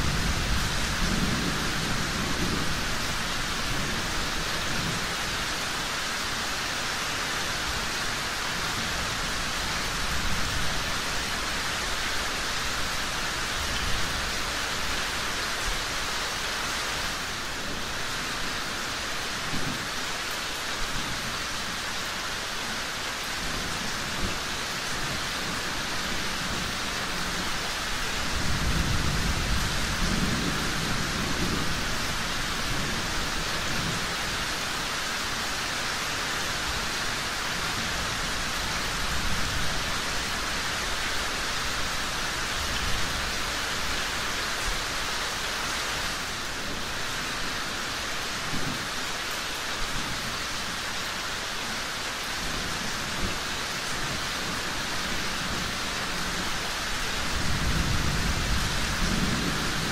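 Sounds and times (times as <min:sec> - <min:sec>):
heavy rain hiss: 0:00.0 - 0:59.9.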